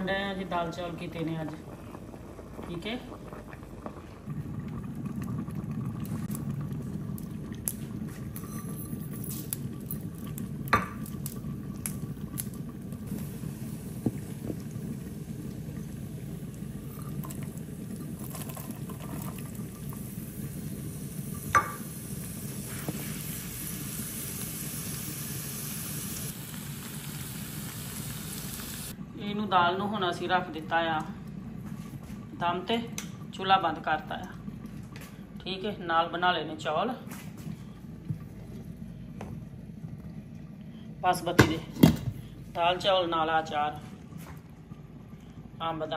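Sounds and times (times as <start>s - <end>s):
pot boiling and bubbling: 0.0s - 45.9s.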